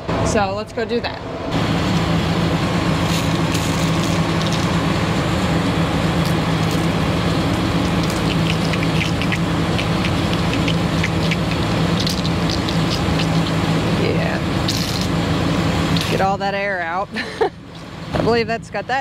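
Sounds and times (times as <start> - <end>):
combine engine running: 0.0 - 19.0.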